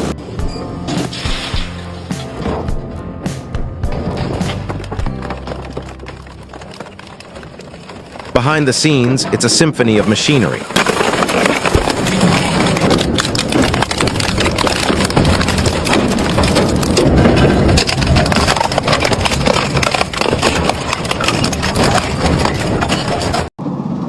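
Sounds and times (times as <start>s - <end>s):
wood-processing machine crushing wood: 3.9s - 23.5s.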